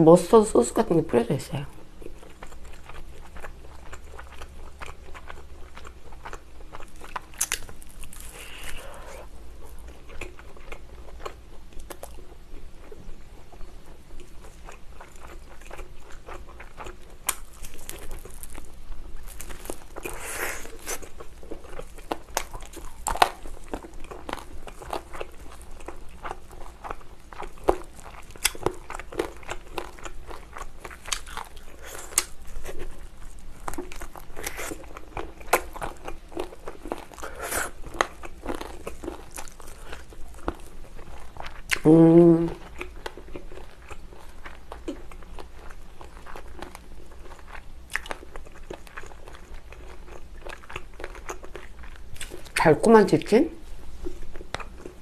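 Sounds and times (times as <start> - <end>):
wet chewing and mouth clicks: 2.0 - 41.9, 42.6 - 52.6, 54.0 - 55.0.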